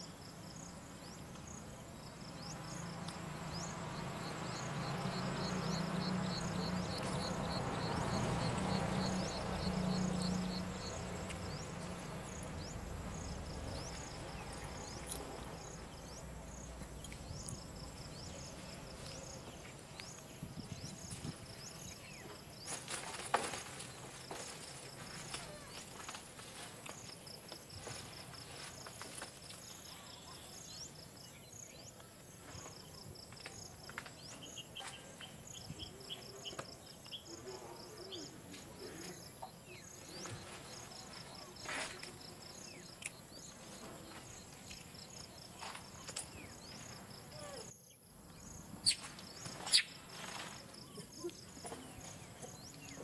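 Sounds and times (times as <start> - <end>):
faint outdoor ambience: 0.0 - 53.0
insects chirping: 0.0 - 53.0.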